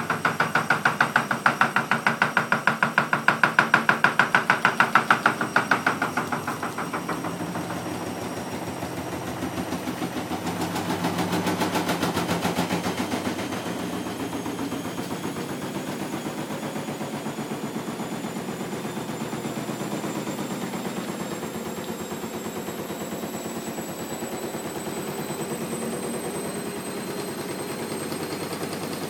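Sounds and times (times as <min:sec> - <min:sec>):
washing machine drum knocking: 0:00.0 - 0:26.4
washing machine mechanical drone: 0:00.0 - 0:29.0.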